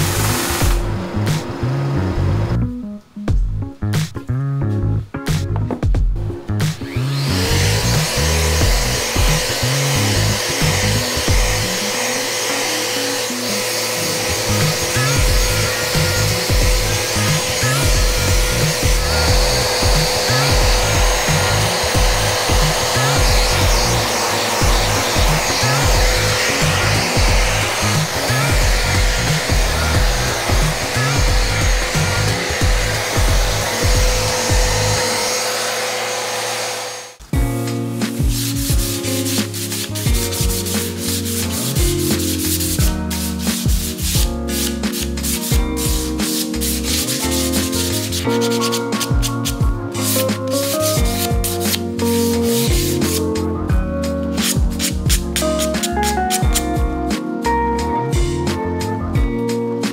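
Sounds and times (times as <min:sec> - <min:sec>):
orbital sander running: 0:00.0 - 0:02.5, 0:06.7 - 0:37.3, 0:38.2 - 0:53.6
background music with bass line: 0:00.0 - 0:12.0, 0:13.9 - 0:35.2, 0:37.2 - 0:59.9.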